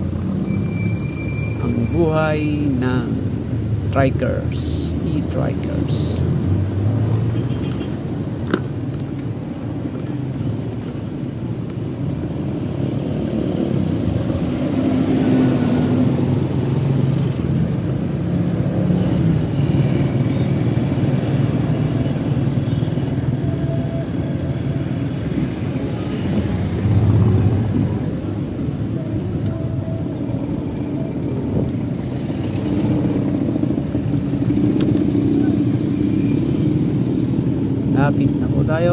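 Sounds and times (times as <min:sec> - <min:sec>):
motorcycle engines running: 0:00.0 - 0:00.6, 0:01.7 - 0:38.9
road noise rumble: 0:00.0 - 0:38.9.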